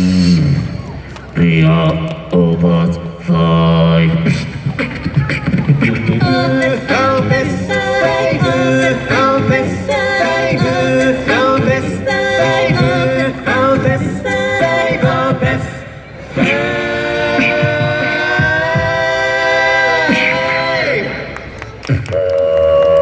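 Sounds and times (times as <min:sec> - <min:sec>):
vocal group singing in harmony: 0:01.4 - 0:23.0.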